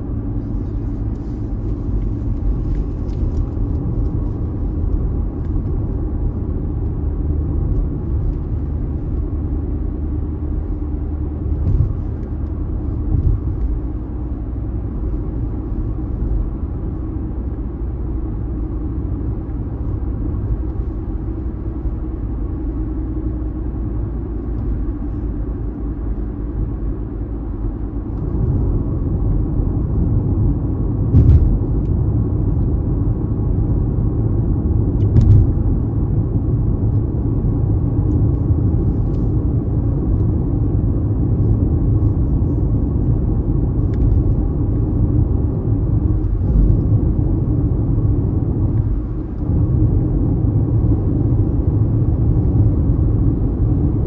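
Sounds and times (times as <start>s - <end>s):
car driving low rumble: 0.0s - 54.0s.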